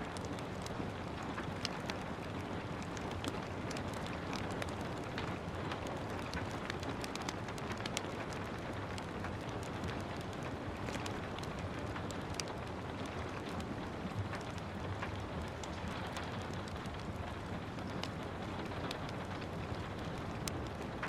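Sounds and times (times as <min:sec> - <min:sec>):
steady rain falling: 0:00.0 - 0:21.0
wood fire crackling: 0:00.0 - 0:21.0.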